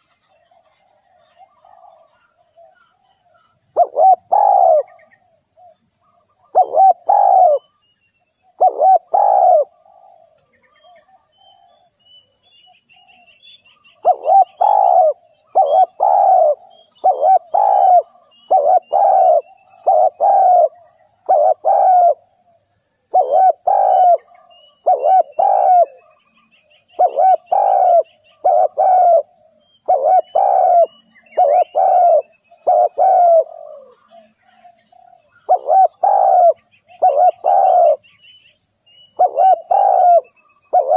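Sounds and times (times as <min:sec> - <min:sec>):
dove cooing: 0:00.0 - 0:07.8, 0:08.6 - 0:11.9, 0:14.0 - 0:26.2, 0:26.9 - 0:38.0, 0:39.2 - 0:40.9.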